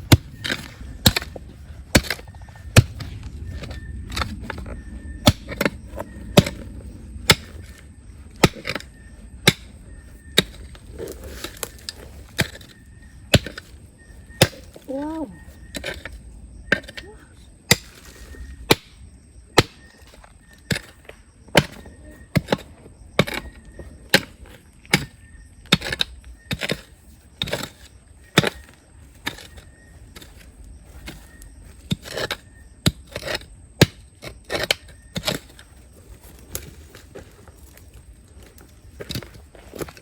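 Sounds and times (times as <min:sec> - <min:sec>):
digging tool striking rock: 0:00.0 - 0:14.9, 0:15.6 - 0:17.1, 0:17.7 - 0:40.0.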